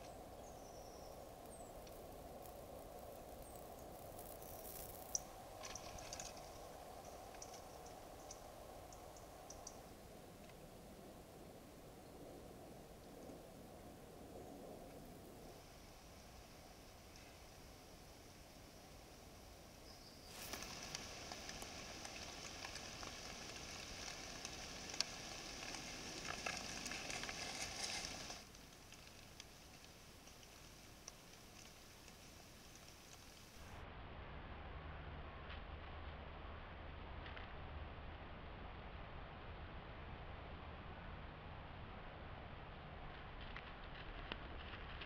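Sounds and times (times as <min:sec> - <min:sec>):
faint crackles and ticks: 0:00.0 - 0:33.8, 0:37.1 - 0:37.6, 0:42.4 - 0:45.0
steady low hiss: 0:00.0 - 0:45.0.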